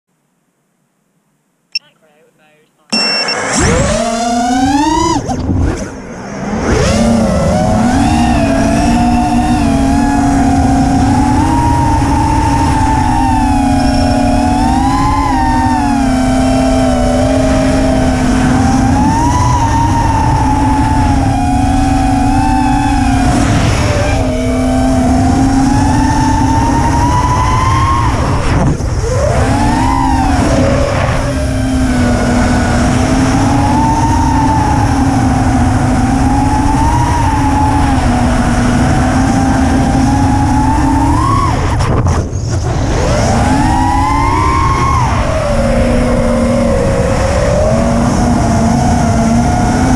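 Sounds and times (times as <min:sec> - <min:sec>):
drone motors whining: 0:02.9 - 0:49.9.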